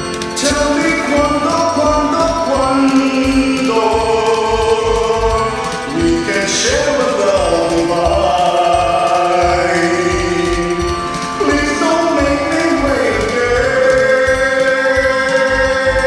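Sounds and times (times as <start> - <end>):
karaoke backing track: 0.0 - 16.0.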